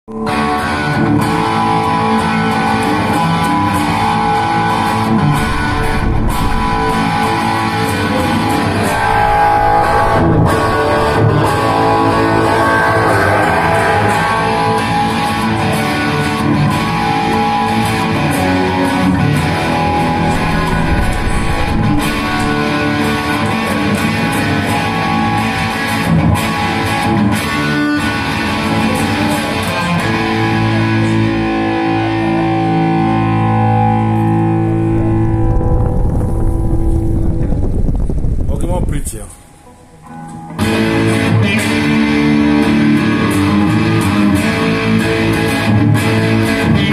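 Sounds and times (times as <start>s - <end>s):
overdriven electric guitar riffs: 0.1s - 38.5s, 39.4s - 46.9s.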